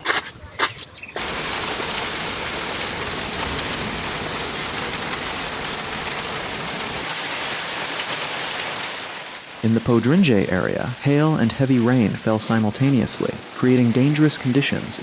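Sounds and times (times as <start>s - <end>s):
heavy rain pouring: 1.2s - 15.0s.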